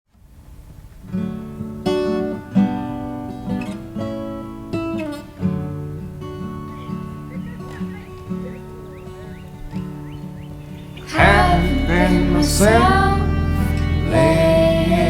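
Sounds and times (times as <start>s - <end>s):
acoustic guitar chords strummed: 1.1s - 15.0s.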